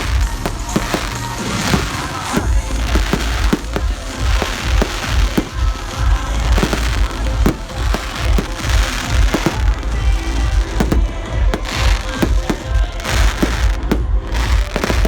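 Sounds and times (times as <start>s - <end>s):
fireworks bangs and booms: 0.0s - 15.0s
low rumble: 0.0s - 15.0s
music playing: 0.0s - 15.0s.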